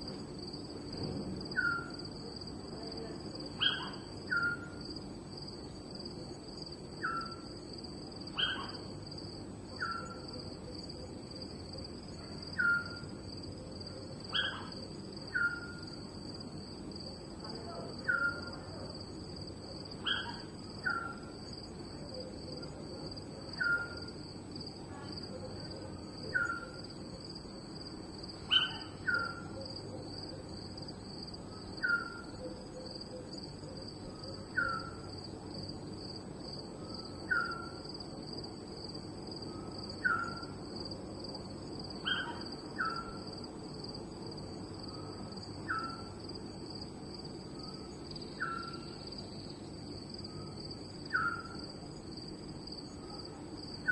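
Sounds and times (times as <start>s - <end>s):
crickets trilling: 0.0s - 53.9s
low steady background noise: 0.0s - 53.9s.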